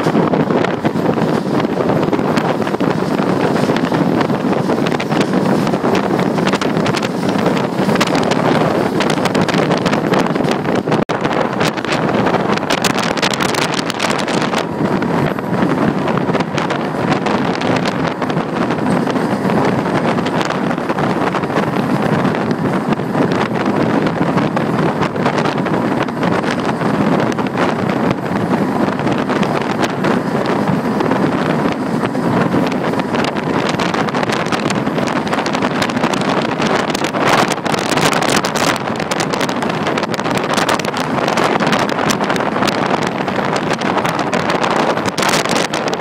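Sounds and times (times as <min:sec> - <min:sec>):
train running on track: 0:00.0 - 0:46.0
wind buffeting microphone: 0:00.0 - 0:46.0.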